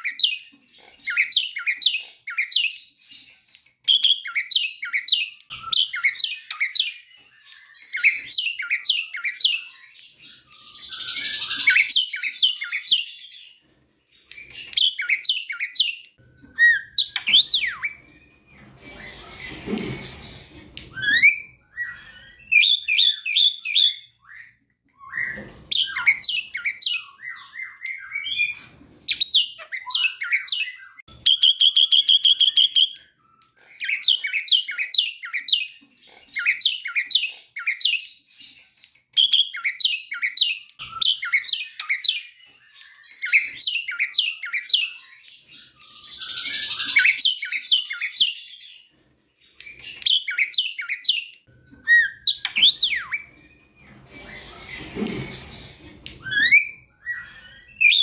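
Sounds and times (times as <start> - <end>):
bird singing chirps and whistles: 0.0 - 3.0, 3.8 - 13.6, 14.2 - 19.6, 20.9 - 54.9, 56.1 - 58.0.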